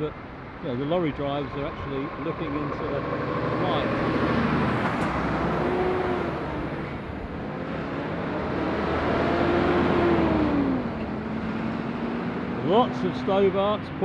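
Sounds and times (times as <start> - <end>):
lorries passing by: 0.0 - 14.0.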